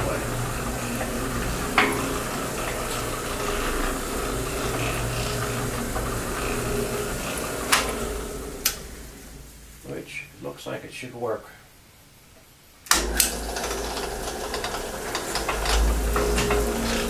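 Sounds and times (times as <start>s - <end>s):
cement mixer motor running: 0.0s - 9.8s, 12.9s - 17.0s.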